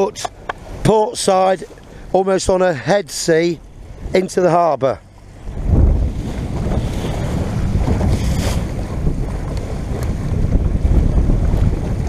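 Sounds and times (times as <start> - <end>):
wind buffeting microphone: 0.0 - 2.6, 3.6 - 12.0
water rushing along hull: 0.0 - 12.0.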